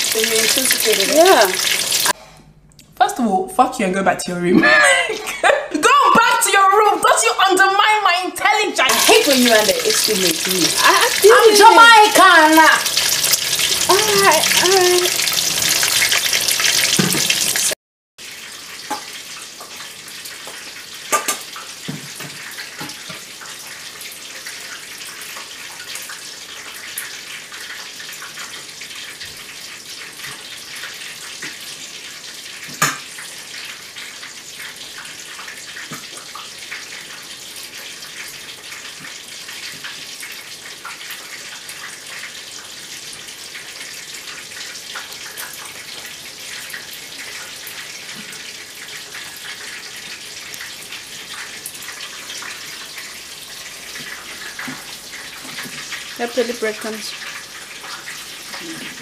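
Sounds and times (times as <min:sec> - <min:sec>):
chicken deep-frying sizzle: 0:00.0 - 0:02.2, 0:08.8 - 0:59.0.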